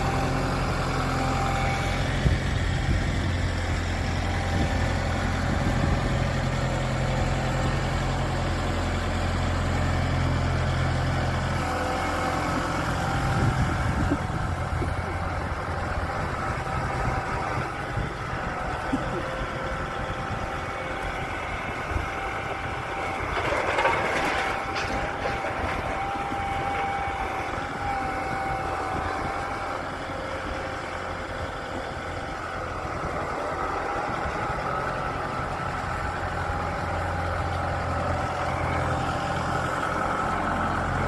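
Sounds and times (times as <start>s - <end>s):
tractor engine running: 0.0s - 41.0s.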